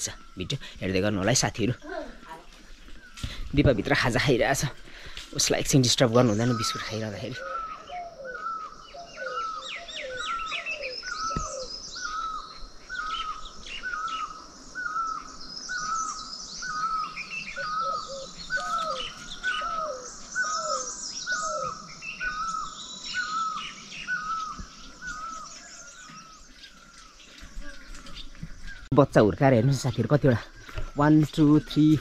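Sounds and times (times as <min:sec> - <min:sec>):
birds chirping and twittering: 0:00.0 - 0:32.0.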